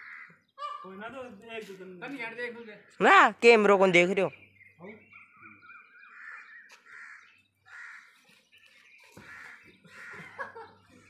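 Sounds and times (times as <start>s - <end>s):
faint harsh bird calls: 0.0s - 3.3s, 4.2s - 11.0s.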